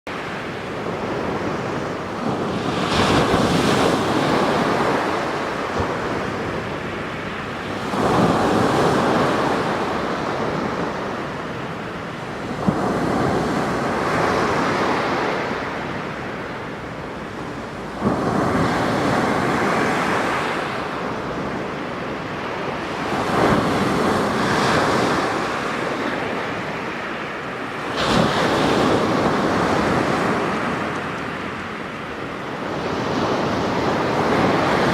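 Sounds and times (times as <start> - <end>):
sea waves crashing on shore: 0.1 - 34.9.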